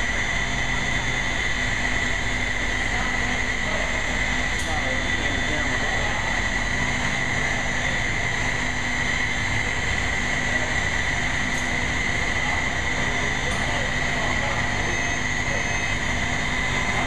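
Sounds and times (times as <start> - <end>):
low machinery rumble: 0.0 - 17.0
machinery high-pitched whine: 0.0 - 17.0.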